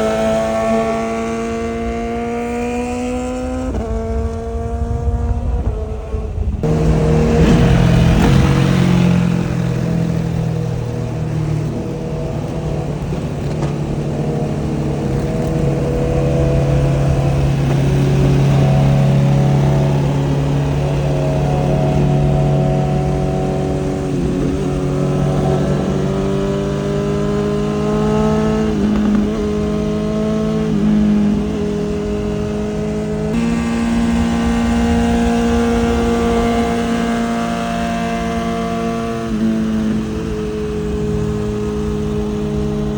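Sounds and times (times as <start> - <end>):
motorcycle engine at speed: 0.0 - 42.9.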